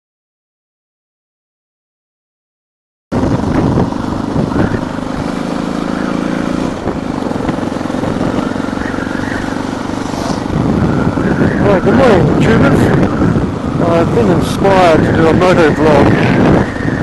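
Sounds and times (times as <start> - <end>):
motorcycle engine running: 3.1 - 17.0
road noise: 3.1 - 17.0
wind rushing: 3.1 - 17.0.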